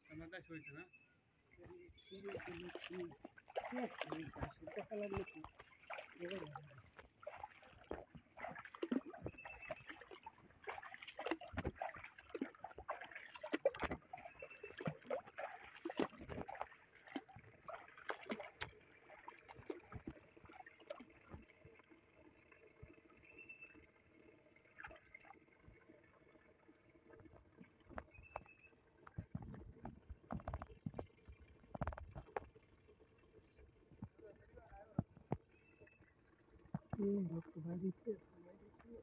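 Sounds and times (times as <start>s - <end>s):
water sloshing and splashing: 1.3s - 39.0s.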